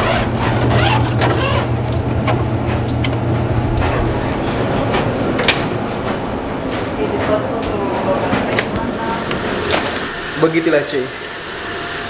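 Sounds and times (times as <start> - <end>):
laundry machines humming: 0.0 - 12.0.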